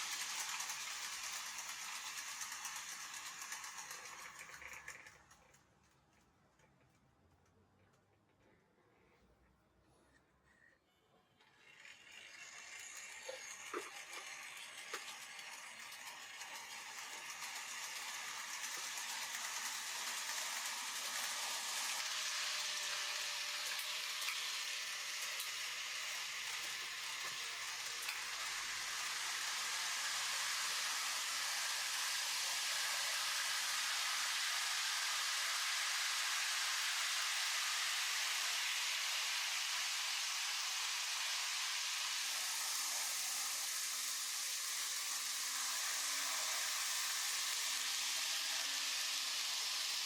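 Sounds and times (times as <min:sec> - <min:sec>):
model train wheels rolling on rails: 0:00.0 - 0:08.1, 0:11.4 - 0:50.0.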